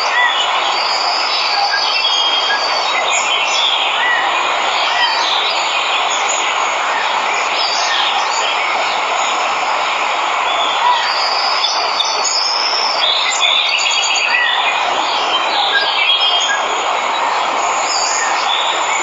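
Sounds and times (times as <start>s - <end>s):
birds chirping: 0.0s - 19.0s
waterfall rushing: 0.0s - 19.0s.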